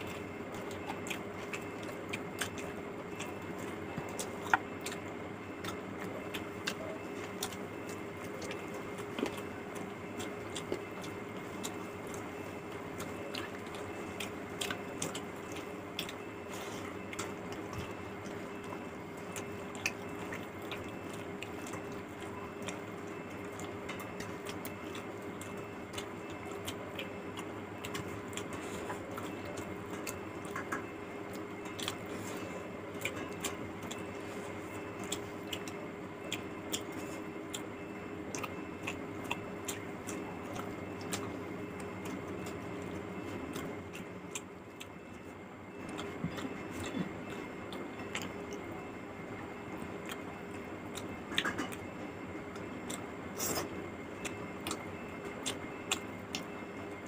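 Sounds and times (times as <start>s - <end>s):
chewing and lip smacking: 0.0s - 57.0s
steady hum: 0.0s - 57.0s.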